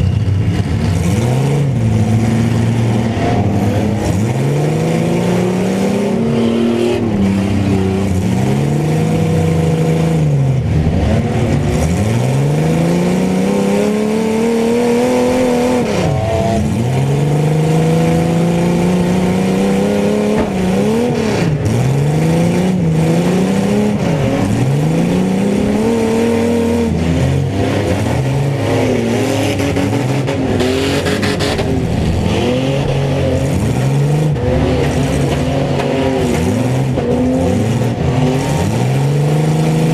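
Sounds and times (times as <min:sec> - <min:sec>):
mini truck engines revving: 0:00.0 - 0:39.9.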